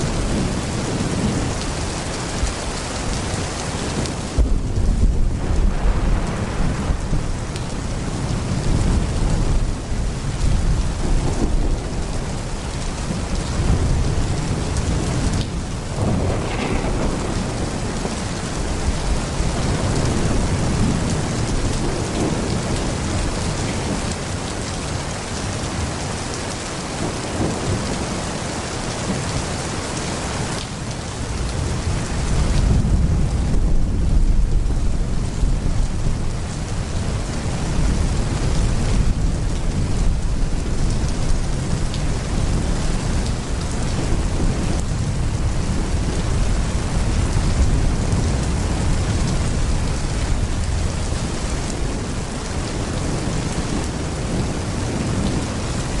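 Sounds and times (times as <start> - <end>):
heavy rain pouring: 0.0 - 56.0
low thunder rumbling: 0.0 - 56.0.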